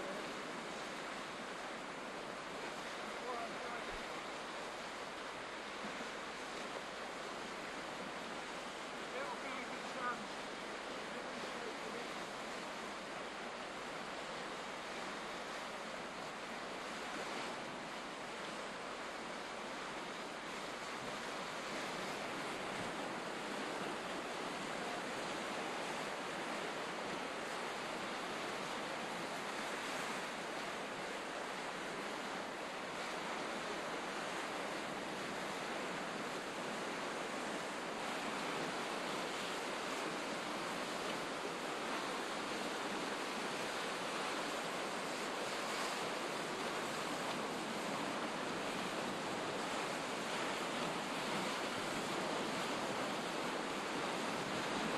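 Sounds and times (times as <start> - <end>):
sea surf at shoreline: 0.0 - 54.9
wind: 0.0 - 54.9.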